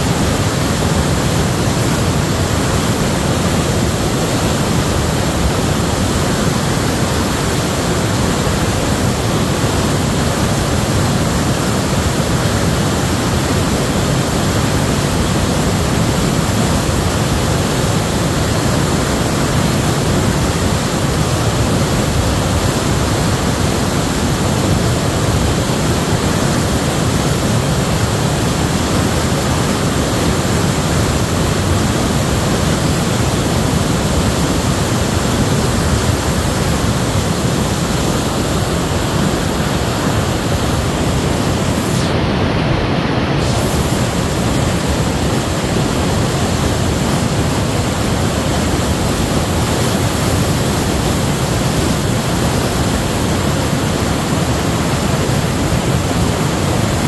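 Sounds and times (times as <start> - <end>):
rushing whitewater rapids: 0.0 - 57.0.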